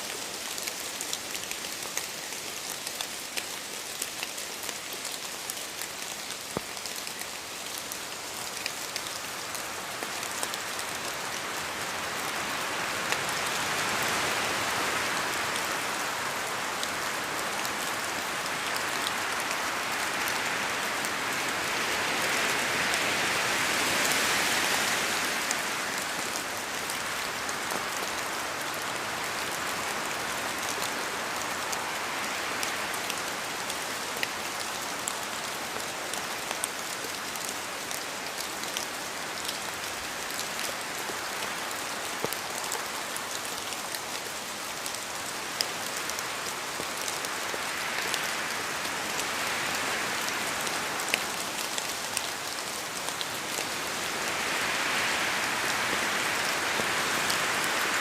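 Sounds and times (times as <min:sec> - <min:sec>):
rain hissing in forest: 0:00.0 - 0:58.0.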